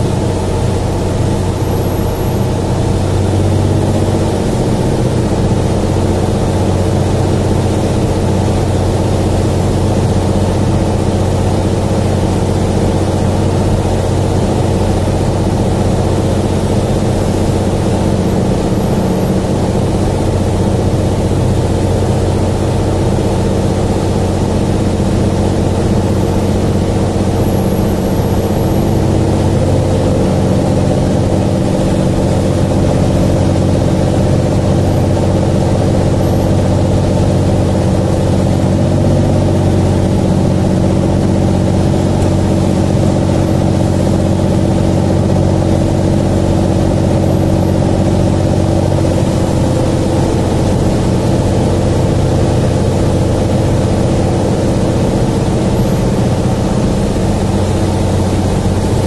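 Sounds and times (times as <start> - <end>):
aircraft cabin engine drone: 0.0 - 59.0.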